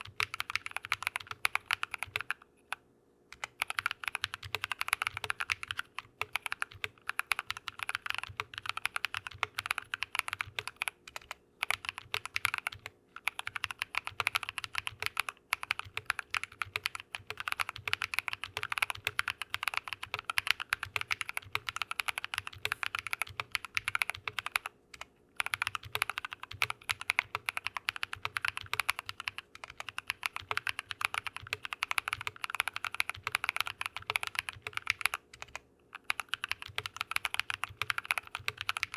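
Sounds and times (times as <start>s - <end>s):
fast typing on mechanical keyboard: 0.0s - 2.4s, 3.3s - 38.9s.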